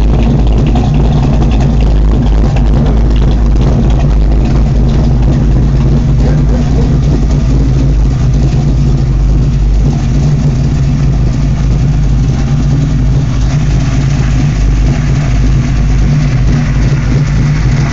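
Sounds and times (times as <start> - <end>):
pickup engine idling: 0.0 - 17.9.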